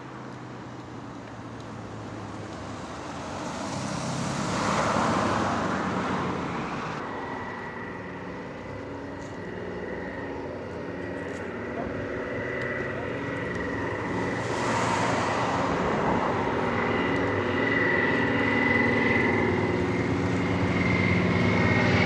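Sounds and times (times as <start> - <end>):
aircraft passing overhead: 0.0 - 22.0.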